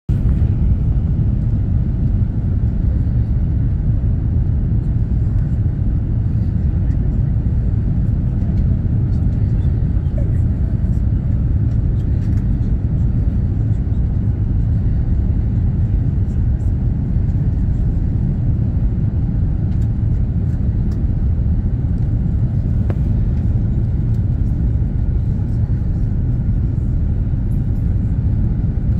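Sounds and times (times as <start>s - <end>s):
aircraft engines rumbling: 0.1s - 28.9s.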